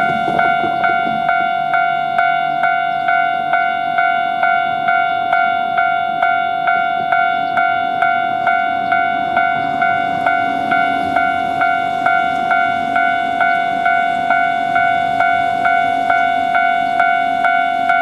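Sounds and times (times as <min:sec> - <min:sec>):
level-crossing warning bell ringing: 0:00.0 - 0:18.0.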